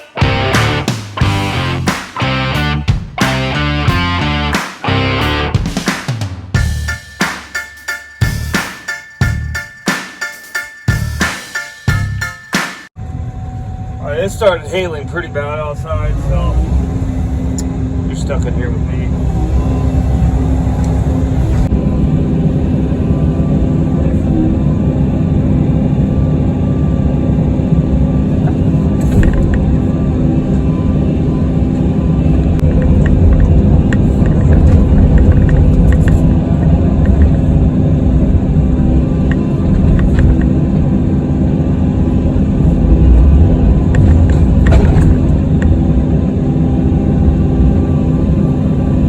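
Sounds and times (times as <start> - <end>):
excavator diesel engine running: 0.0 - 5.6, 13.0 - 49.0.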